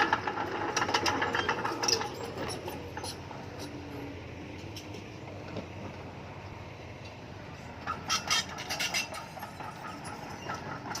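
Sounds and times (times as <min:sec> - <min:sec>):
bulldozer engine rumble: 0:00.0 - 0:11.0
steel tracks clanking and squeaking: 0:00.0 - 0:11.0.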